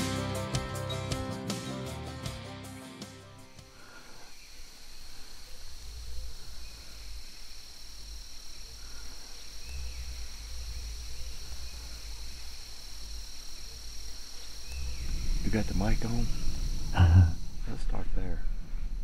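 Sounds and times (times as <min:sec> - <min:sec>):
night insects trilling: 0:03.4 - 0:19.0.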